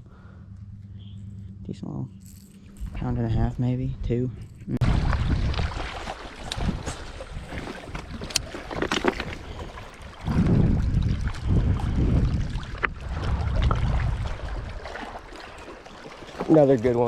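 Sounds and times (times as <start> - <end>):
wind buffeting microphone: 0.8 - 15.2.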